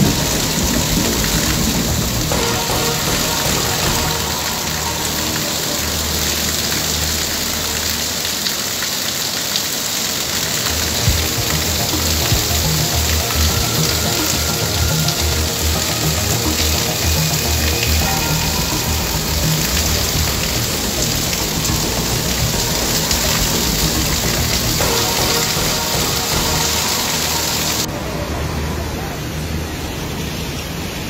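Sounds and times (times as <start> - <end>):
heavy rain on pavement: 0.0 - 31.0.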